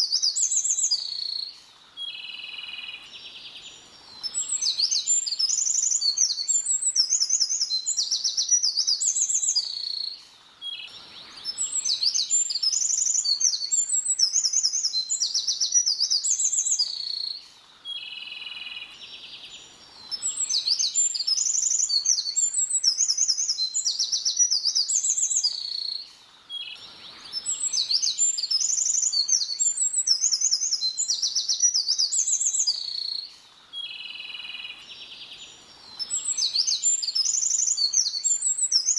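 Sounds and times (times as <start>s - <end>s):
songbird singing trills: 0.0s - 38.9s.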